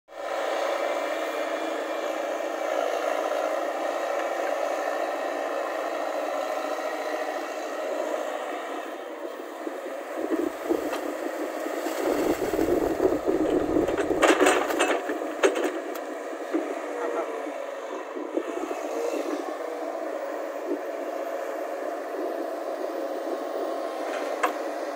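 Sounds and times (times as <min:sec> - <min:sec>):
excavator diesel engine running: 0:00.2 - 0:24.9.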